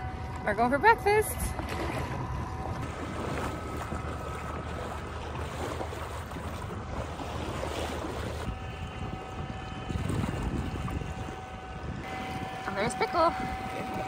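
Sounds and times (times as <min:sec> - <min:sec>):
boat motor drone: 0:00.0 - 0:14.0
wind buffeting microphone: 0:00.0 - 0:14.0
water rushing: 0:00.8 - 0:14.0.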